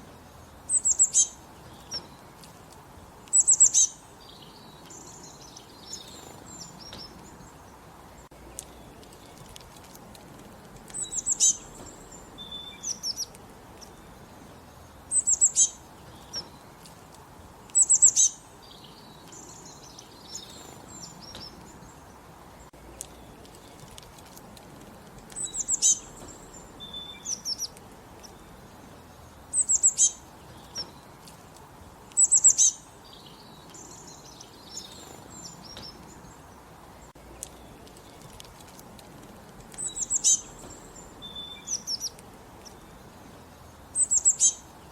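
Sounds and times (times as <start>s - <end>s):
bird singing high-pitched song: 0.0s - 2.5s, 3.3s - 9.6s, 10.8s - 16.8s, 17.6s - 23.9s, 25.2s - 31.3s, 32.0s - 38.4s, 39.6s - 44.9s
faint steady hiss: 0.0s - 44.9s
soft bird chirps: 0.0s - 44.9s.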